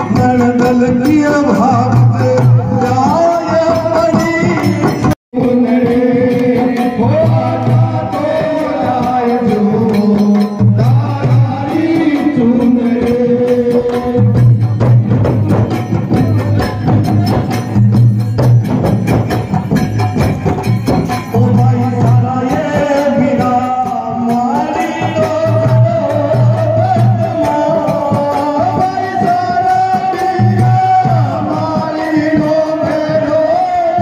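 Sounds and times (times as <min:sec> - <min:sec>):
folk song singing: 0:00.0 - 0:15.2, 0:21.1 - 0:34.0
frame drums beating: 0:00.0 - 0:34.0.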